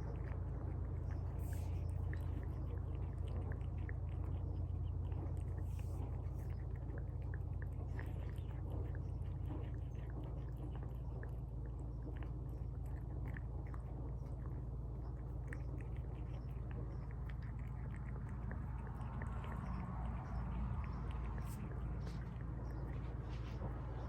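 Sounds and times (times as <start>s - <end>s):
pet chewing wetly: 0.0s - 24.0s
steady low hum: 0.0s - 24.0s.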